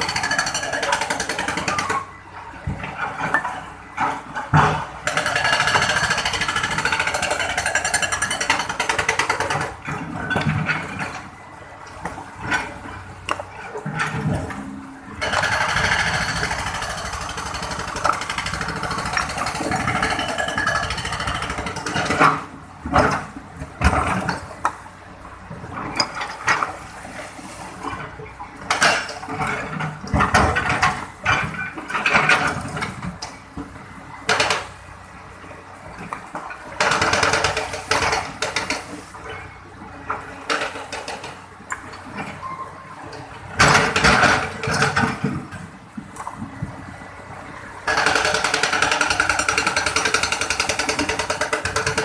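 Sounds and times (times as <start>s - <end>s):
excavator engine hum: 0.0s - 52.0s.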